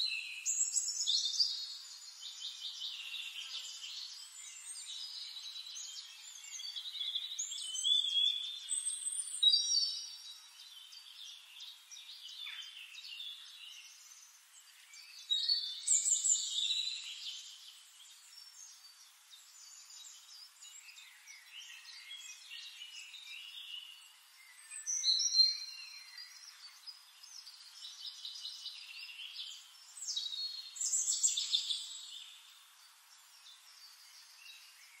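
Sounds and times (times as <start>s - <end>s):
birds chirping and twittering: 0.0s - 35.0s.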